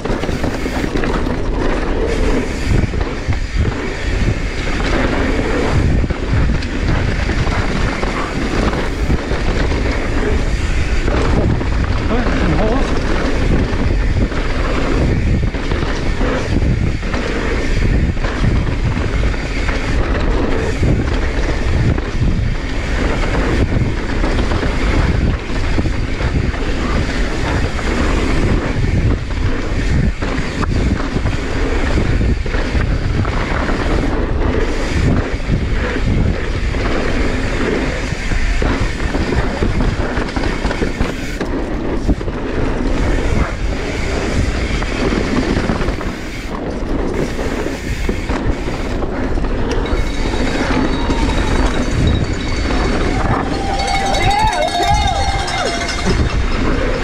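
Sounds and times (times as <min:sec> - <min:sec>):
bike chain rattling: 0:00.0 - 0:57.0
tyres rumbling over dirt and rocks: 0:00.0 - 0:57.0
wind buffeting microphone: 0:00.0 - 0:57.0.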